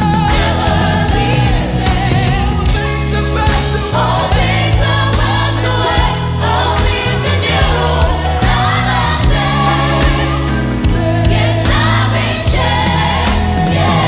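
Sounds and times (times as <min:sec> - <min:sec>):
gospel choir singing: 0:00.0 - 0:14.0
live band with bass and drums: 0:00.0 - 0:14.0.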